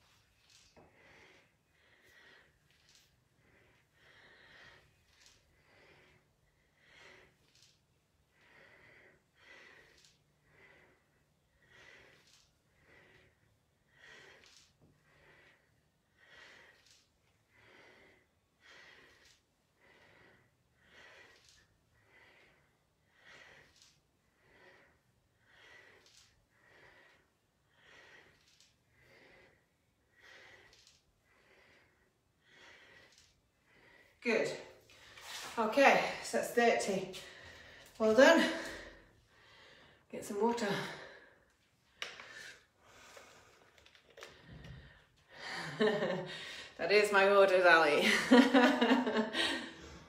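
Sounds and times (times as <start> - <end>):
woman breathing hard: 0.4 - 34.2, 37.1 - 46.8, 48.2 - 50.0.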